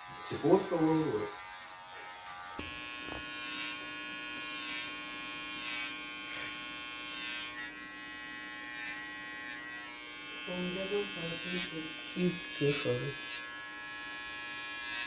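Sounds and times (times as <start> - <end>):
hair clippers buzzing: 0.0 - 15.0.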